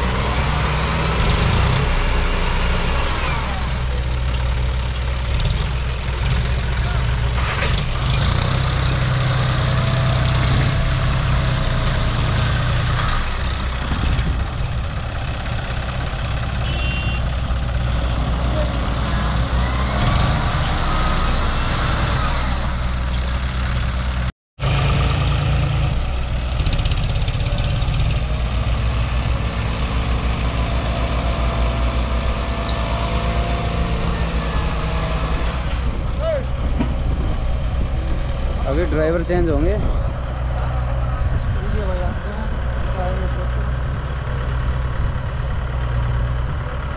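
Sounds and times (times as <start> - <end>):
tractor diesel engines under load: 0.0 - 46.9.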